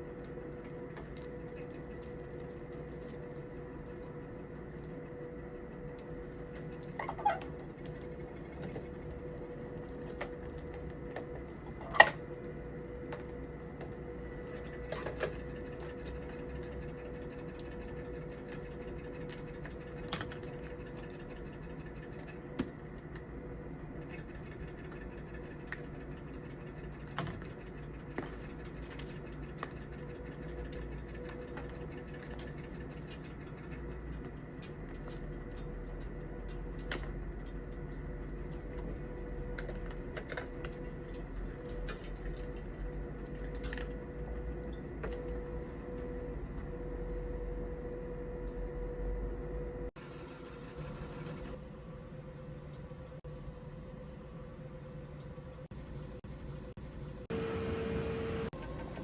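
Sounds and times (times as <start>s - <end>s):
steady electrical hum: 0.0s - 58.9s.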